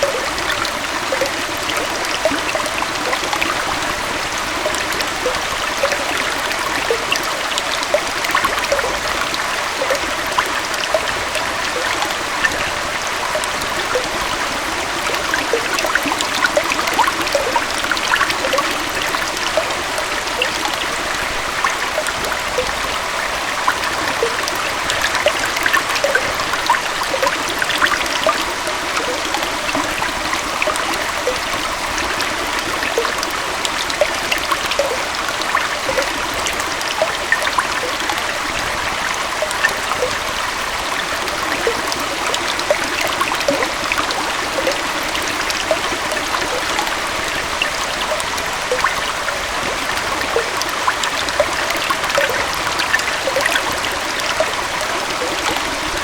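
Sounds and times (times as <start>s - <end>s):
small waterfall and stream flowing: 0.0s - 56.0s.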